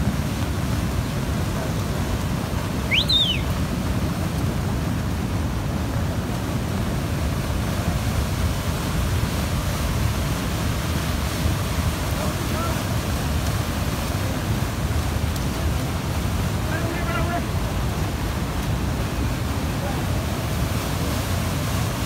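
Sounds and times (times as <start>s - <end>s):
flood water rushing: 0.0s - 22.0s.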